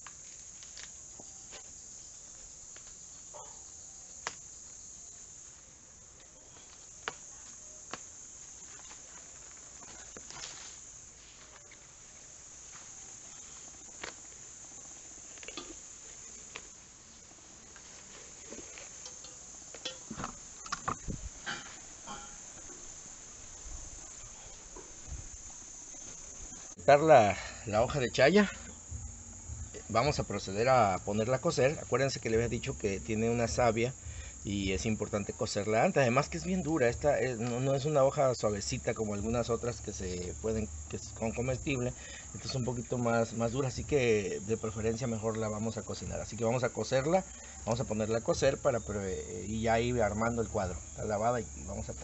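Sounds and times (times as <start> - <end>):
high insect chorus: 0.0 - 52.0.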